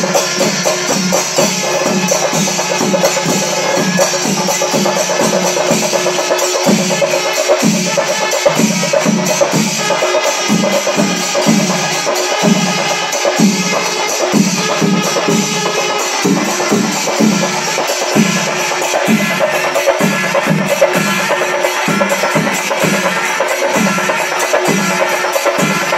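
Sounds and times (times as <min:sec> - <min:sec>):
drums in steady rhythm: 0:00.0 - 0:25.9
hand cymbals clashing: 0:00.0 - 0:25.9.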